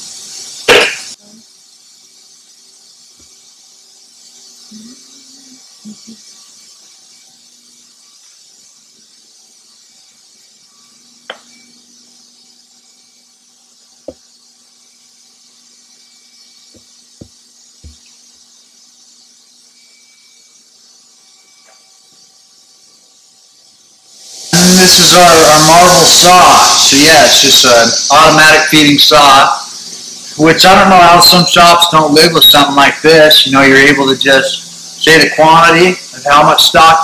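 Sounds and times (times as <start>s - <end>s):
lathe running with high hiss: 0.0s - 37.0s.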